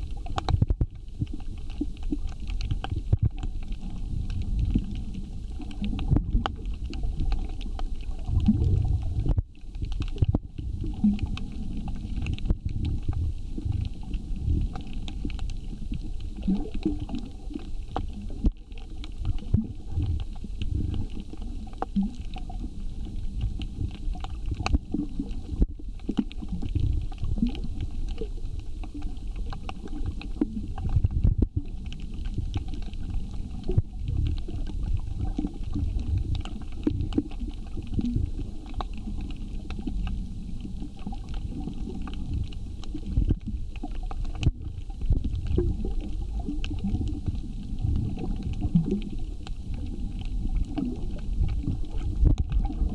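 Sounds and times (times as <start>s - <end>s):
faint clicks and crackles: 0.0s - 52.9s
low muffled underwater rumble: 0.0s - 52.9s.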